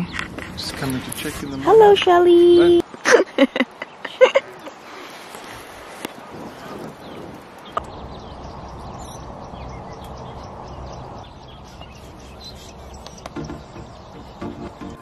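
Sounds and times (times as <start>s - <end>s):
background hiss: 0.0s - 15.0s
small birds chirping: 0.0s - 15.0s.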